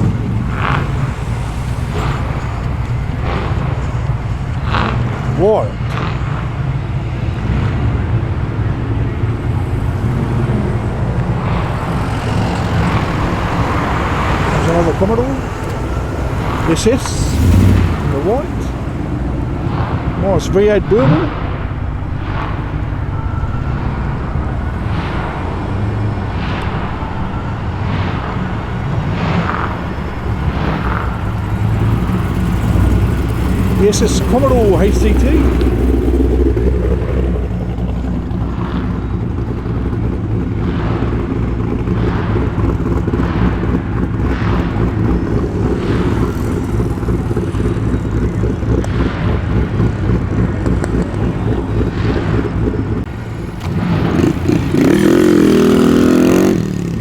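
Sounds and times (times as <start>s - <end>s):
car engine rumbling past: 0.0s - 57.0s.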